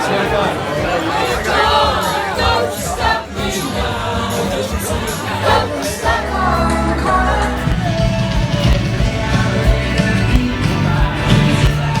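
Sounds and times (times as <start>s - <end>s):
bass line: 0.0s - 12.0s
loud music with singing: 0.0s - 12.0s
steady drum beat: 0.0s - 12.0s.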